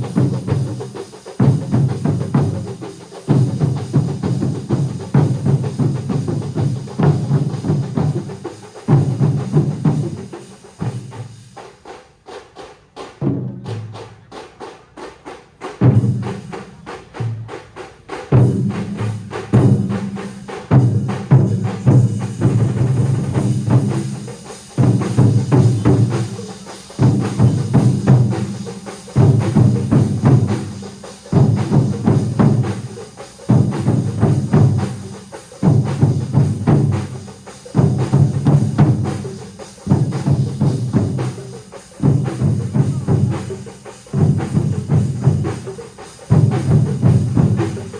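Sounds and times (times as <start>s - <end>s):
heavy bass drumming: 0.0s - 11.3s, 15.8s - 47.9s
drum ensemble playing: 0.0s - 47.9s.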